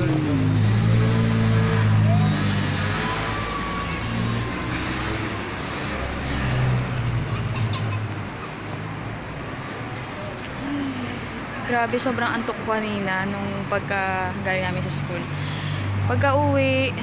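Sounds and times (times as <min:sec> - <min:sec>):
traffic noise: 0:00.0 - 0:17.0
vehicle engine humming: 0:00.0 - 0:17.0.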